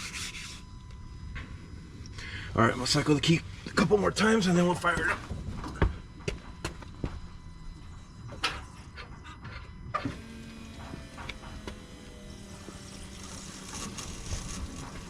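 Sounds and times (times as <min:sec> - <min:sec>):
electric fuel pump whirring: 0:00.0 - 0:15.0.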